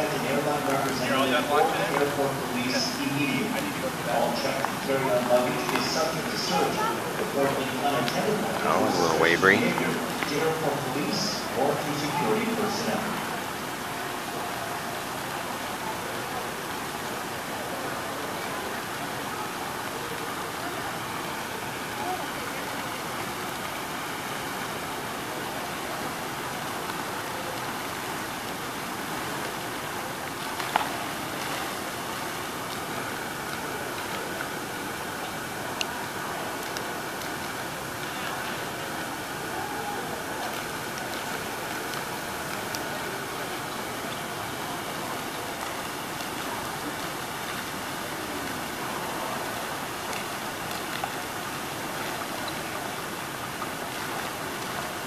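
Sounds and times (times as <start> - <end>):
water jets splashing into pool: 0.0 - 55.0.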